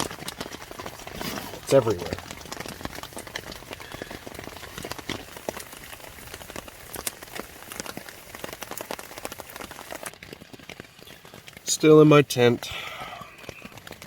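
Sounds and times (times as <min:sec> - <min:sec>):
rain hissing on a tent: 0:00.0 - 0:14.0
raindrops tapping on fabric: 0:00.0 - 0:14.0.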